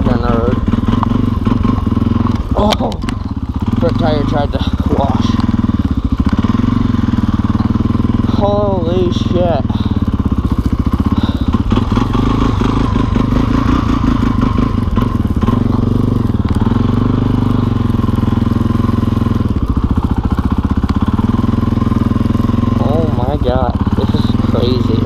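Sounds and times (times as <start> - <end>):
dirt bike engine at low revs: 0.0 - 25.0.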